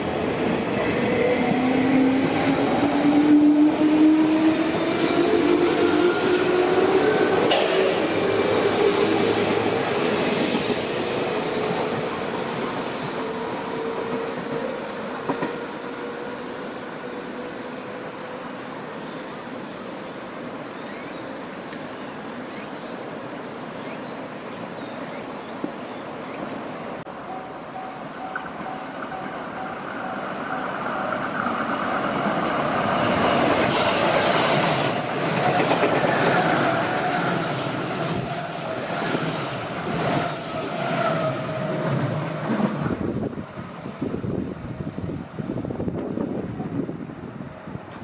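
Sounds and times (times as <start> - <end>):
electric train passing: 0.0 - 48.0.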